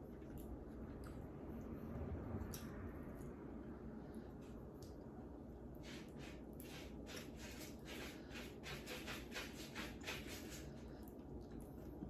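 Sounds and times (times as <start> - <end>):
crackly chewing: 0.0 - 5.2, 6.6 - 12.0.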